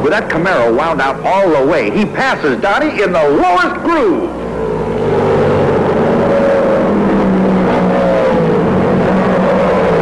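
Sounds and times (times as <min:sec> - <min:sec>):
race car engines at full throttle: 0:00.0 - 0:10.0.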